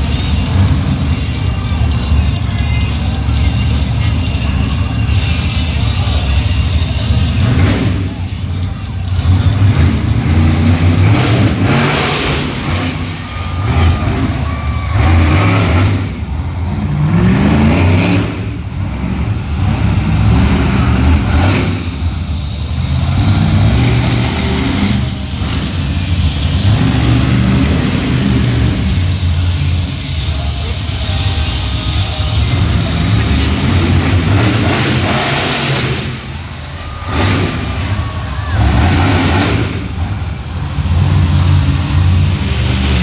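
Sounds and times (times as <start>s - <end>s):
monster truck engine revving: 0.0s - 43.0s.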